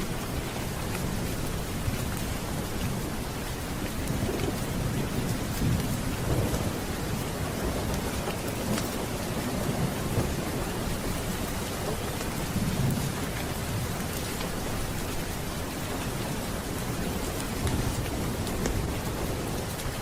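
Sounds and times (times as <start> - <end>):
low rolling thunder: 0.0 - 20.0
steady rain: 0.0 - 20.0.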